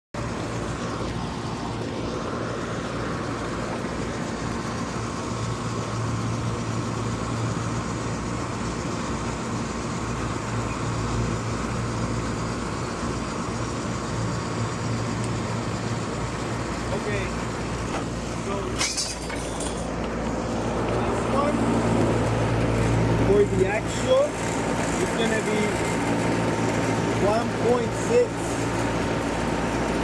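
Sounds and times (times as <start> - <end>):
fan air rushing: 0.2 - 30.0
hvac unit humming: 0.2 - 30.0.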